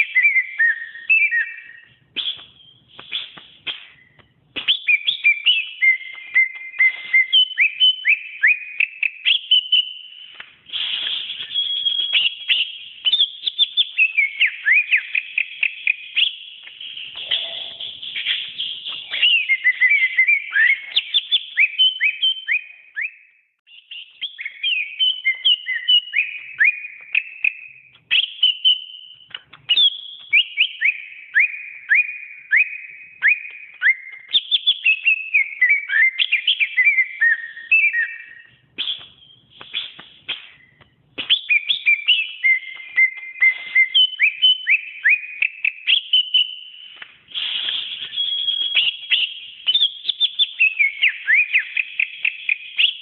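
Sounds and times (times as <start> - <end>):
bird whistling and chirping: 0.0 - 53.0.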